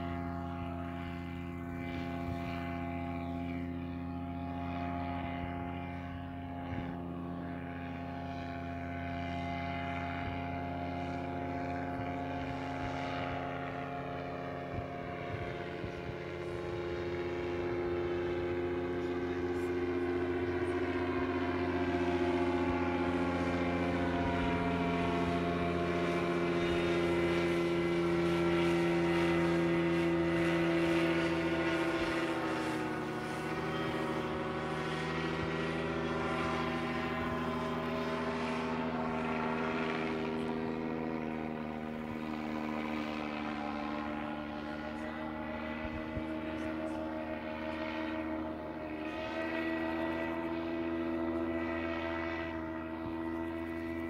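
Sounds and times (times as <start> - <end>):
paramotor engine droning overhead: 0.0 - 54.0.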